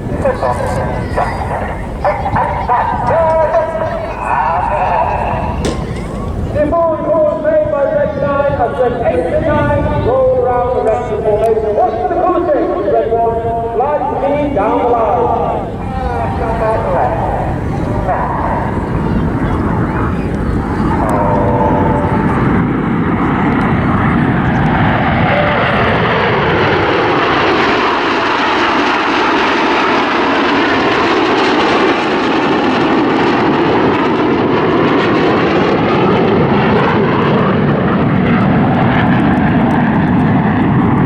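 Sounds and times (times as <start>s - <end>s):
jets flying past: 0.0s - 41.0s.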